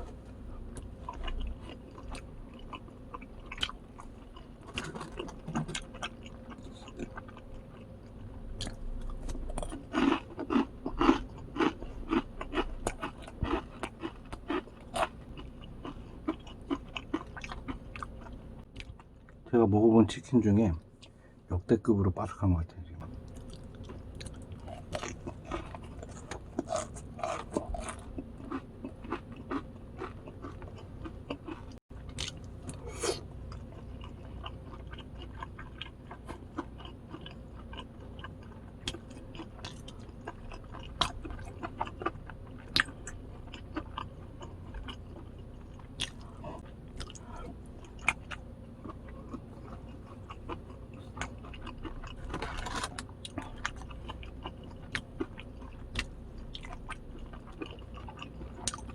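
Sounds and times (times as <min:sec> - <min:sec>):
crunching and chewing fried chicken: 0:00.0 - 0:19.6, 0:23.0 - 0:58.9.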